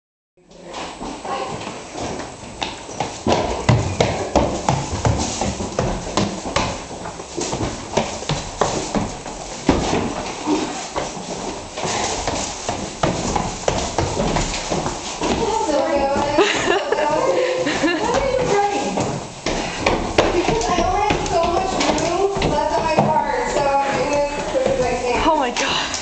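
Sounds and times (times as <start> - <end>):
footsteps on wooden stairs: 0.7 - 26.0.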